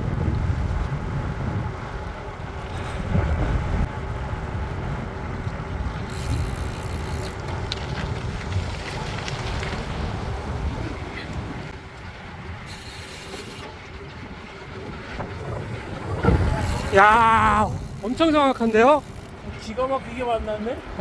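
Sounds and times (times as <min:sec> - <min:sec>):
low rumble from bike ride: 0:00.0 - 0:21.0
wind buffeting microphone: 0:00.0 - 0:21.0.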